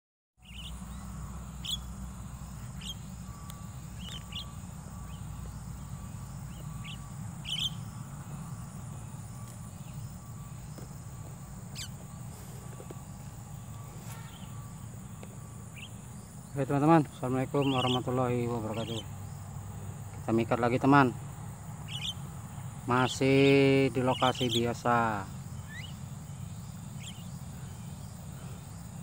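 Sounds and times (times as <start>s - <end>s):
high insect drone: 0.4s - 29.0s
low steady rumble: 0.4s - 29.0s
sharp bird chirps: 0.4s - 29.0s.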